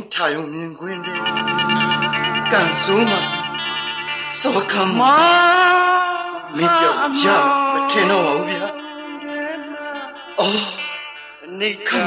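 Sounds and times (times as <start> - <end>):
music with held notes: 0.8 - 12.0.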